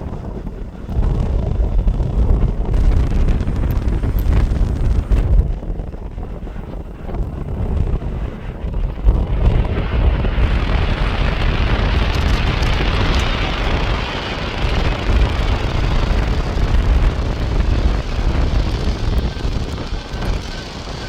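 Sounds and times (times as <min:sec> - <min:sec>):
jet engine roar: 0:00.0 - 0:21.0
wind buffeting microphone: 0:00.0 - 0:21.0.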